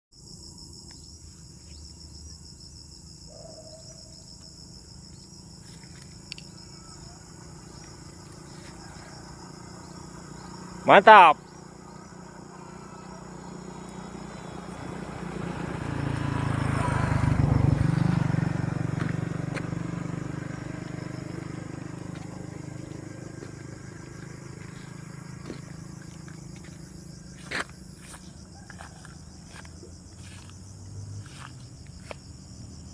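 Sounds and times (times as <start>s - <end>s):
insects chirring: 0.2s - 32.9s.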